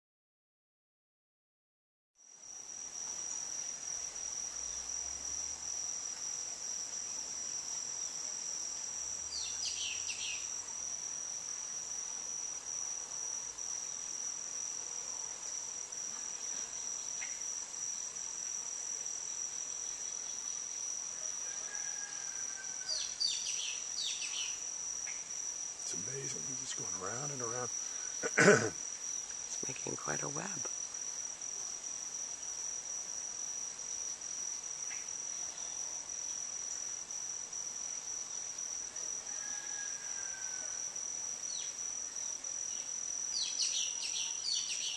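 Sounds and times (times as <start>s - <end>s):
insects trilling: 2.2s - 44.9s.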